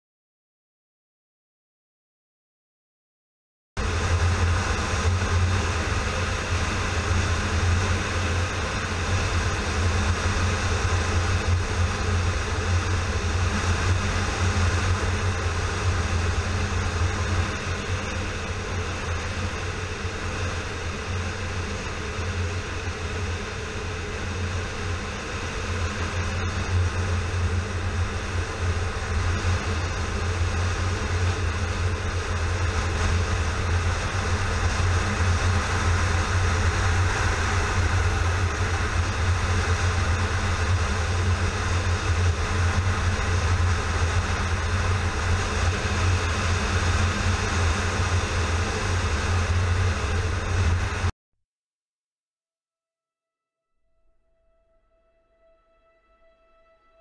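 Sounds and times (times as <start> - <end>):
wind rushing on microphone: 3.8 - 51.1.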